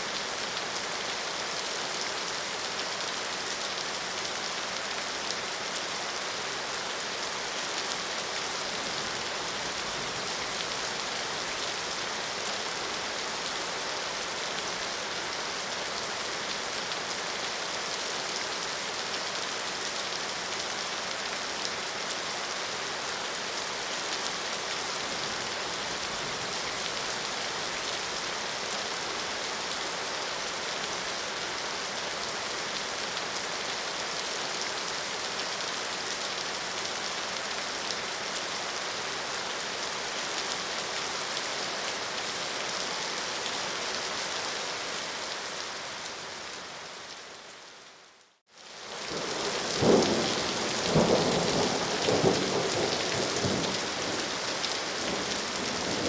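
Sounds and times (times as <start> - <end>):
rain pattering on a surface: 0.0 - 47.4, 48.1 - 56.0.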